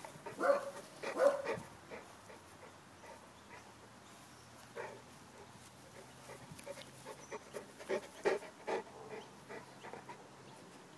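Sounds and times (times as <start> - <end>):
dog panting: 0.0 - 3.7, 4.8 - 10.5.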